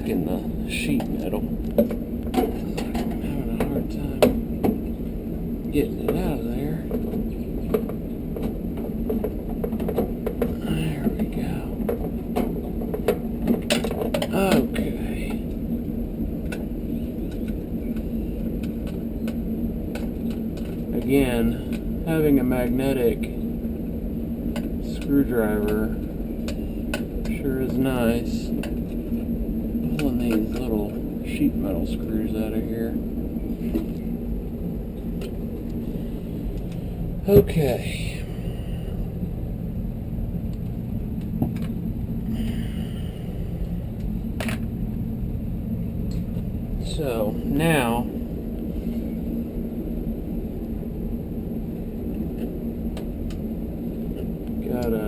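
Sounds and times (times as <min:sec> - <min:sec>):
faint hum: 0:00.0 - 0:55.0
low rumble: 0:00.0 - 0:55.0.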